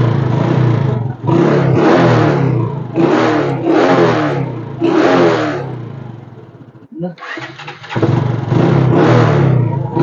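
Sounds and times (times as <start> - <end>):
engine revving in throttle blips: 0.0 - 10.0.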